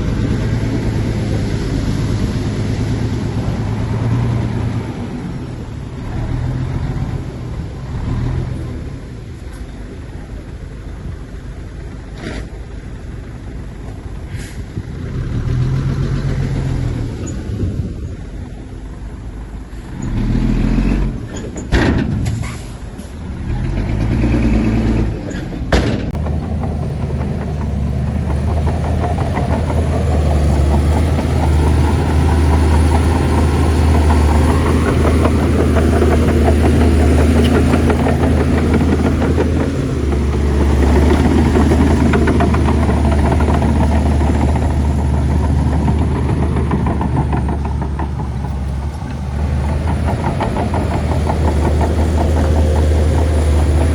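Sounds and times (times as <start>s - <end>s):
bulldozer diesel engine droning: 0.0s - 21.5s, 22.6s - 53.9s.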